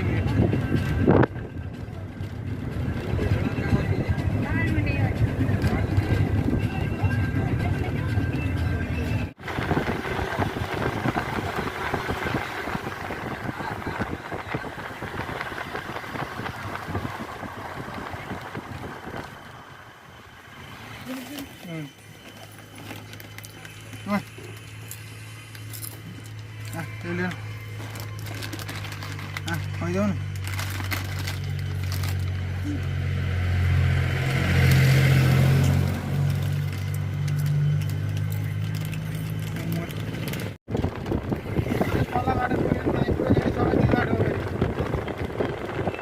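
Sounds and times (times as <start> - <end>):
vehicle engine and road rumble: 0.0 - 46.0.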